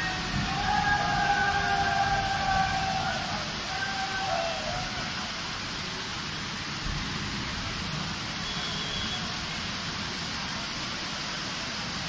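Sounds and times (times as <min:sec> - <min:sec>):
heavy rain pouring on street: 0:00.0 - 0:12.0.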